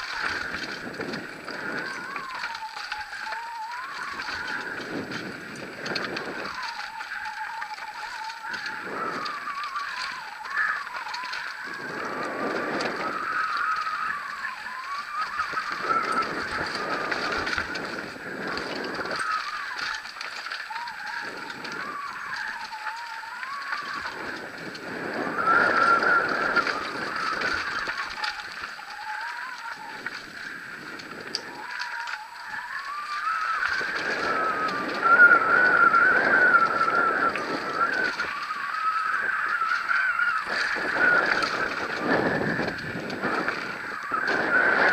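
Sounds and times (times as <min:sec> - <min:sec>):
tyres on dirt and gravel: 0:00.0 - 0:44.9
wind on microphone: 0:00.0 - 0:44.9.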